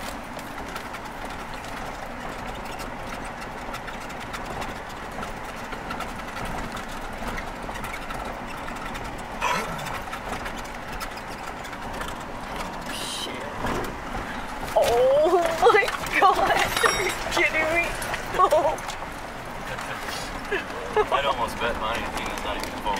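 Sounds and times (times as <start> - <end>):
car engine running: 0.0 - 22.9
gravel crackling under tyres: 0.0 - 22.9
road noise: 0.0 - 22.9.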